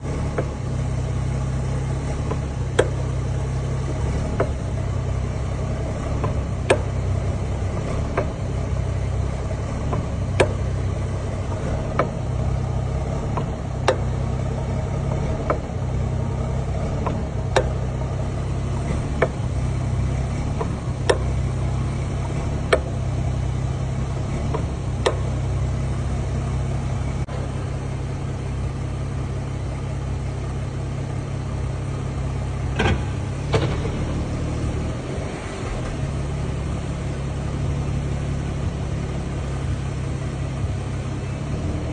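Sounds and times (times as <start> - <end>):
car differential clunking: 0.0 - 41.9
car low hum: 0.0 - 41.9.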